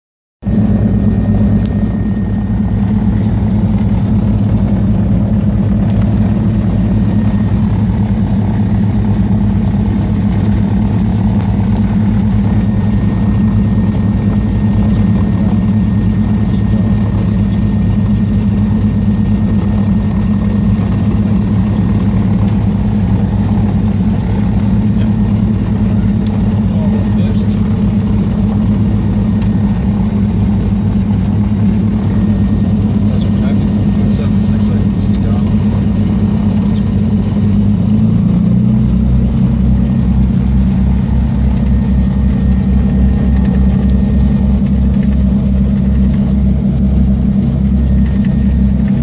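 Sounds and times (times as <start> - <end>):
propeller aircraft engines droning: 0.4 - 49.0.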